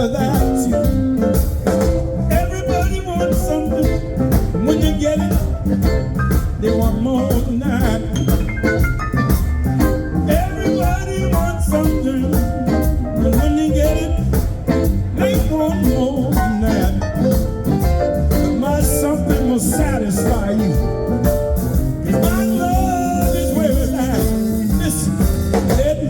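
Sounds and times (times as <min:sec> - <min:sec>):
blues band playing: 0:00.0 - 0:26.0
drums beating: 0:00.0 - 0:26.0.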